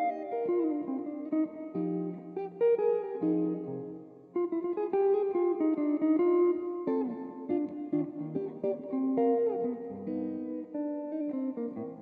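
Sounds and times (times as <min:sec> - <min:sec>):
clean electric guitar: 0:00.0 - 0:12.0.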